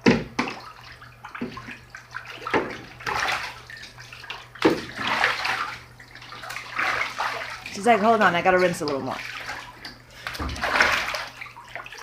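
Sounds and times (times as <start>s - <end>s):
goose splashing water: 0.0s - 12.0s.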